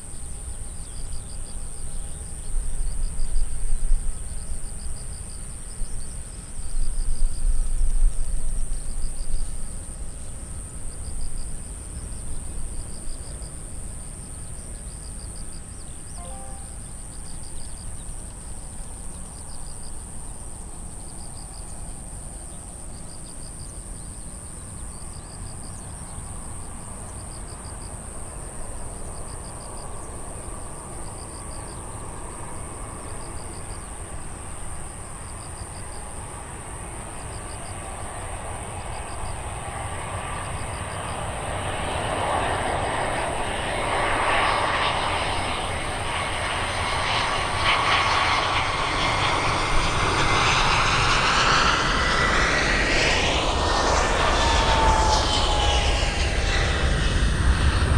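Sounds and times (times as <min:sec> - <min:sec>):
insect chirping: 0:00.0 - 0:57.9
jet airliner engine rumble: 0:00.0 - 0:57.9.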